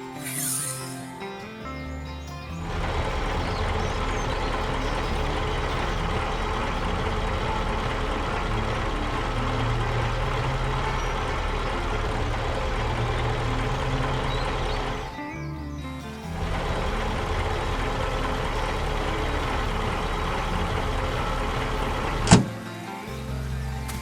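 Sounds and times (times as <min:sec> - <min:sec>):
heavy vehicle engine running: 0:02.5 - 0:24.0.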